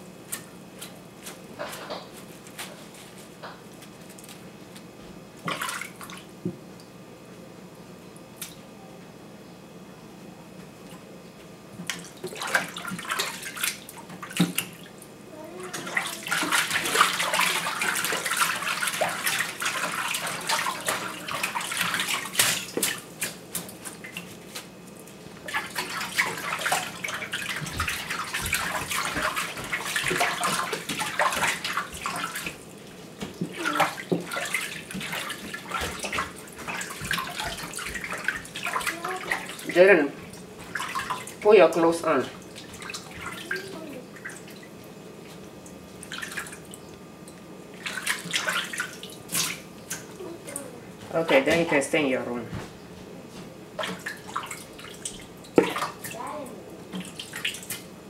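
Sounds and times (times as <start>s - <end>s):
water sloshing in a metal sink: 5.4s - 6.9s, 11.8s - 52.7s, 53.7s - 58.0s.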